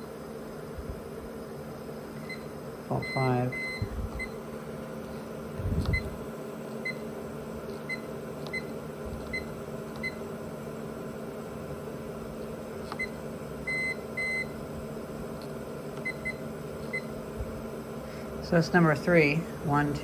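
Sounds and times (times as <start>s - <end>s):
cooling fans humming: 0.0s - 20.0s.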